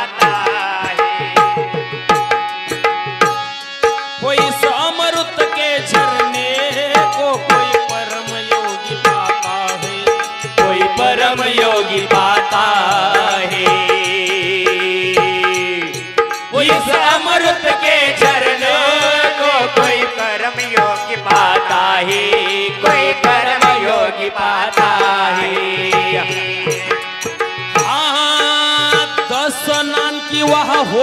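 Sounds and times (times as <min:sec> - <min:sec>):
hand drums playing rhythm: 0:00.0 - 0:31.0.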